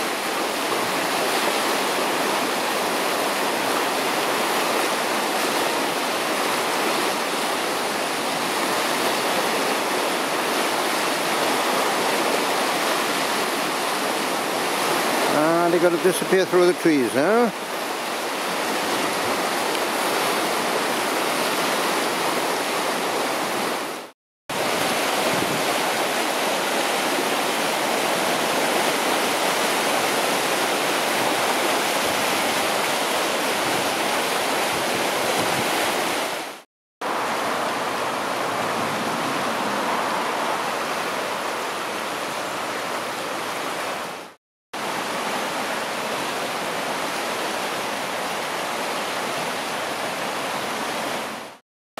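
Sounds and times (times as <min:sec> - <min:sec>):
river rushing over rapids: 0:00.0 - 0:51.6.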